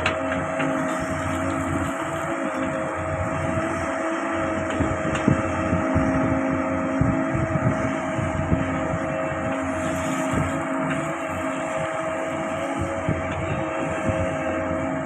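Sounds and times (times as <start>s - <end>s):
excavator diesel engine running: 0.0s - 15.0s
hydraulic whine: 0.0s - 15.0s.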